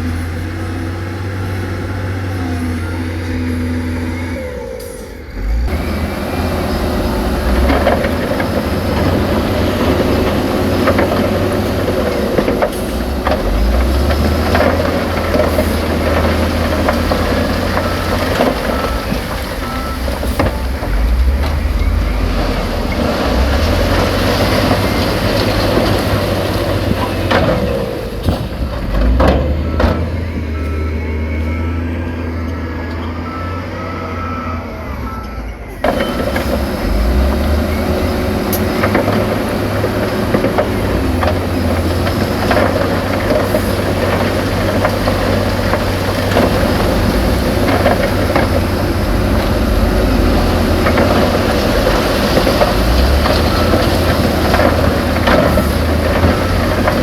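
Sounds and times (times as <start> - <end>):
heavy diesel engines under load: 0.0 - 57.0
reversing alarm beeping: 2.4 - 26.2, 29.2 - 57.0.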